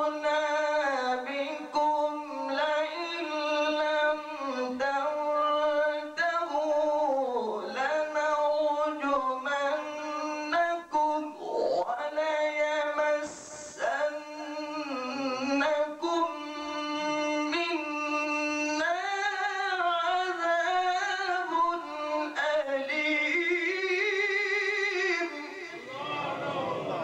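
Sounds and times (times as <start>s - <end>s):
man chanting into a microphone: 0.0s - 27.0s.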